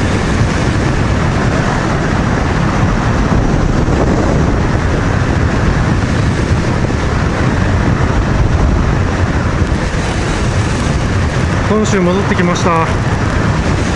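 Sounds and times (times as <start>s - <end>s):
motorcycle engine cruising: 0.0s - 13.9s
wind rush on microphone: 0.0s - 13.9s.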